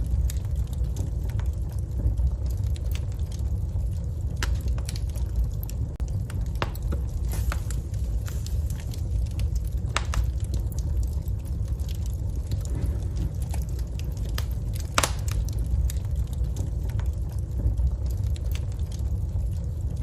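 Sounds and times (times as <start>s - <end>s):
logs crackling and popping: 0.0s - 20.0s
low rumble of flames: 0.0s - 20.0s.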